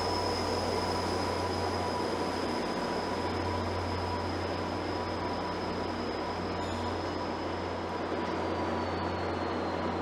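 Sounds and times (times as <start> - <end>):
train wheels rolling on rail: 0.0 - 10.0.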